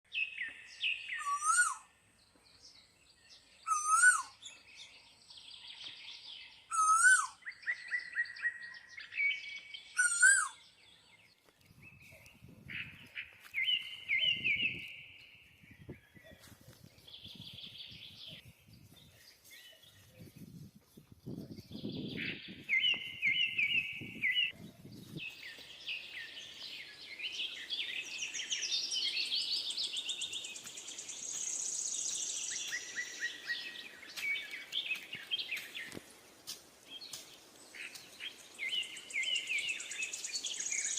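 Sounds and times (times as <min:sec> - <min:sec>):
birds chirping: 0:00.1 - 0:40.9.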